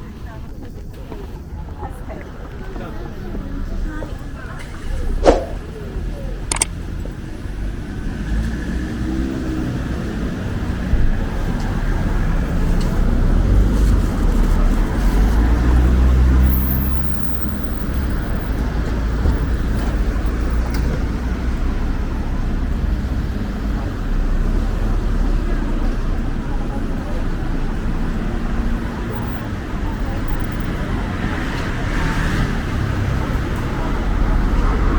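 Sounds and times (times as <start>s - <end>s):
traffic rumble: 0.0s - 34.9s.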